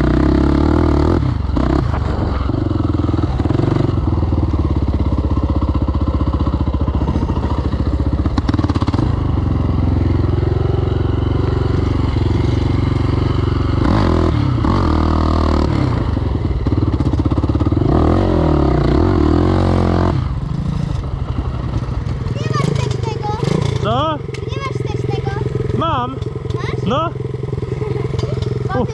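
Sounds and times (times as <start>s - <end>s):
quad bike engine running: 0.0s - 28.9s.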